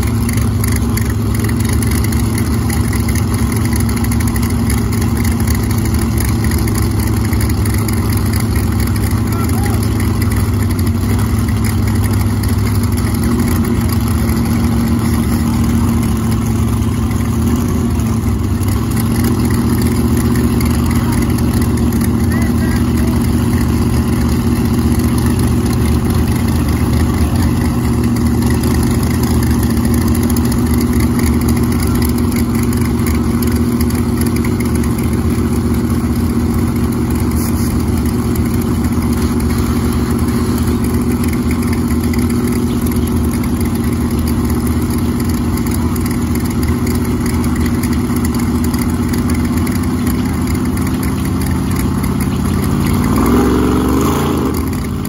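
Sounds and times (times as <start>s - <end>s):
race car engines idling loudly: 0.0s - 55.0s.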